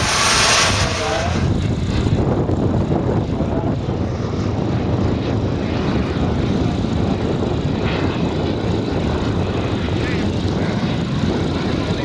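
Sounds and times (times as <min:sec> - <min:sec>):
model jet turbines droning: 0:00.0 - 0:12.0.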